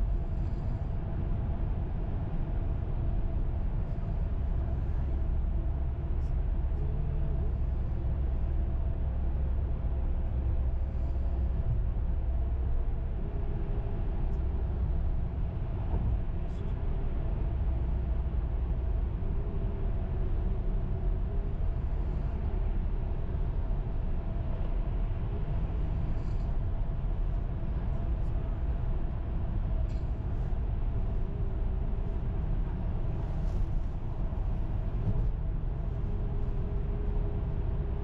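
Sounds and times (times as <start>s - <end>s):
faint steady hum: 0.0s - 38.0s
tyre and engine rumble in car: 0.0s - 38.0s.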